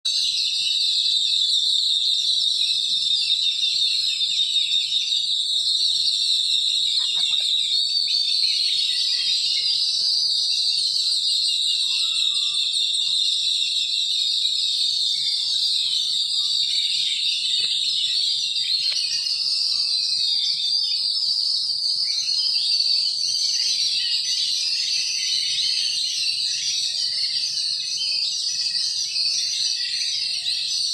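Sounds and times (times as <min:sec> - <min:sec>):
small birds chirping chorus: 0:00.0 - 0:30.9.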